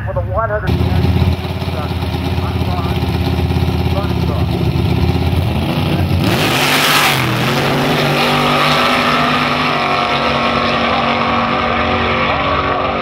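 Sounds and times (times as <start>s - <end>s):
drag car engines accelerating: 0.7s - 13.0s.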